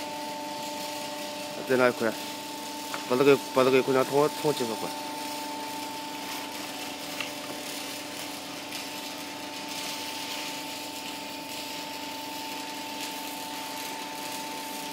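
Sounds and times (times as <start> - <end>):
hydraulic pump motor humming: 0.0 - 14.9.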